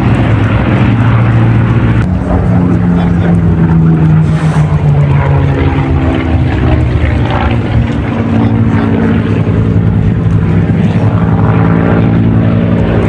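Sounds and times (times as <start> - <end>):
aircraft engine flying overhead: 0.0 - 13.0.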